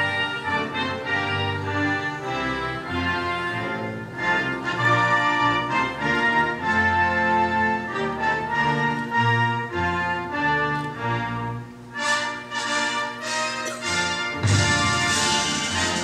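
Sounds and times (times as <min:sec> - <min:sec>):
orchestral music: 0:00.0 - 0:16.0.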